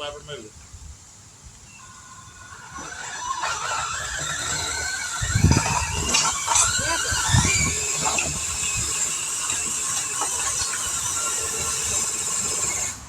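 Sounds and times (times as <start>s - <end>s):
high-pitched drivetrain whine: 1.8s - 13.0s
tyres spinning in dirt: 1.8s - 13.0s.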